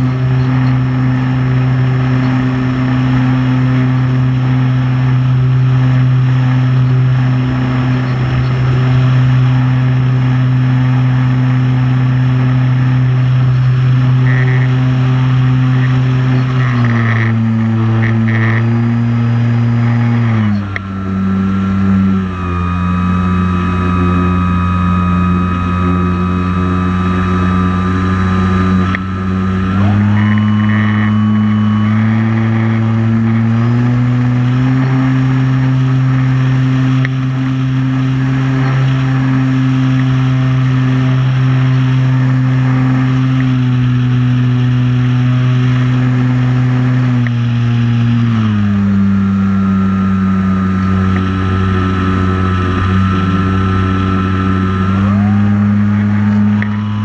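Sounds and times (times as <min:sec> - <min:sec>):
drone motors humming: 0:00.0 - 0:57.0.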